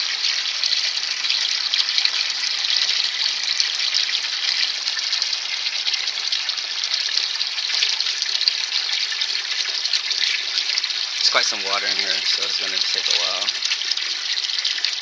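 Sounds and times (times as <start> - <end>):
water rushing into bucket: 0.0 - 15.0.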